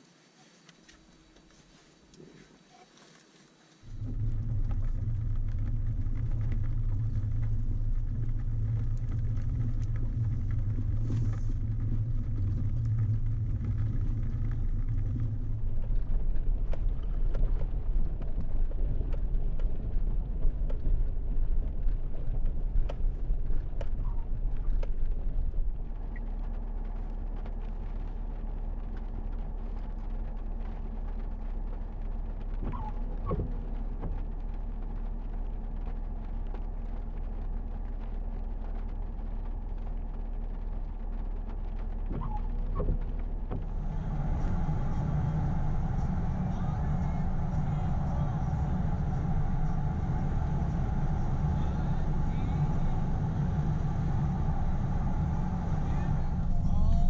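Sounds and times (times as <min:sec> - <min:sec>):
truck engine and road rumble: 0:03.8 - 0:57.0.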